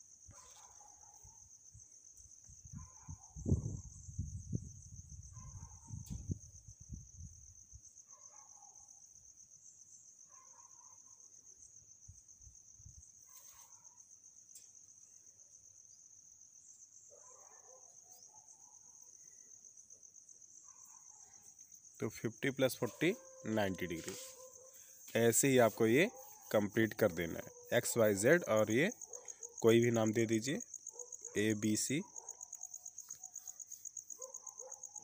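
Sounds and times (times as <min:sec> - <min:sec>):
insect trill: 0:00.0 - 0:35.0.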